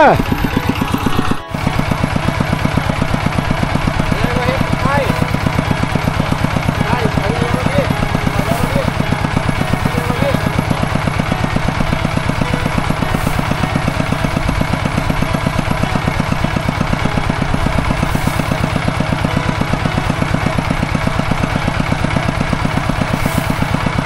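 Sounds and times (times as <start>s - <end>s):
diesel engine chugging: 0.0s - 24.0s.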